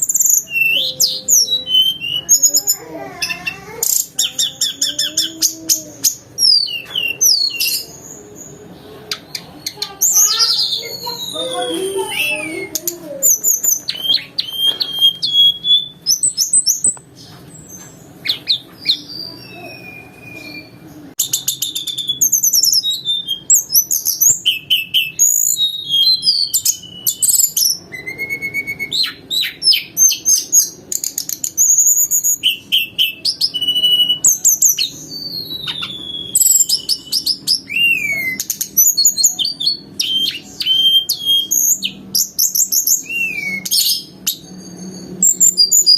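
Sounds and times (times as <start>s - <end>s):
bird singing whistles and trills: 0.0s - 8.6s, 9.7s - 17.0s, 17.7s - 45.9s.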